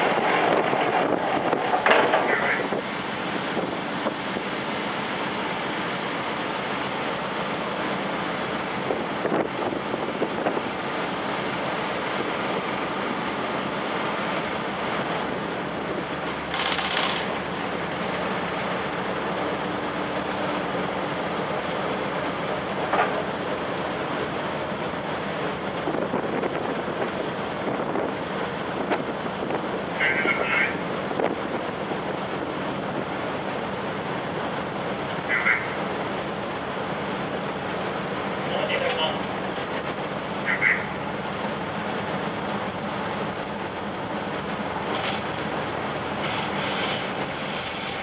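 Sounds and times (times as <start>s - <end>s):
low ship engine hum: 0.0s - 48.0s
wind and water rushing: 0.0s - 48.0s.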